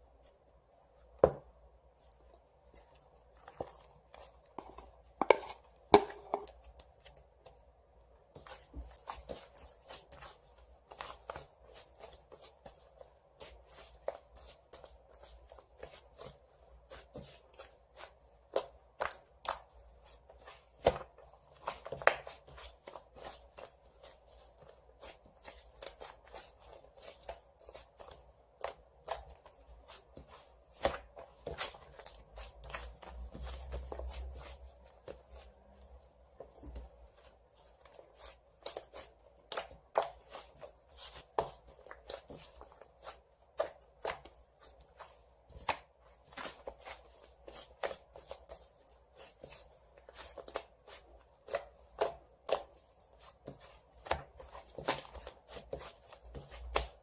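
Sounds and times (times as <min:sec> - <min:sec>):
soft slime squishing: 0:00.0 - 0:57.0.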